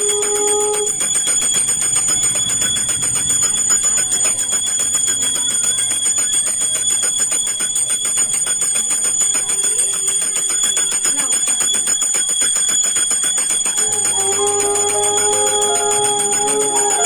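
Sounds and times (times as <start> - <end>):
hand bell ringing rapidly: 0.0 - 17.0.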